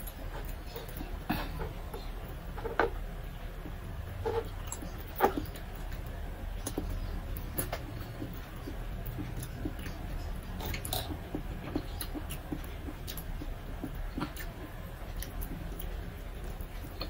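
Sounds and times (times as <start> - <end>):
person chewing with wet mouth sounds: 0.0 - 17.0.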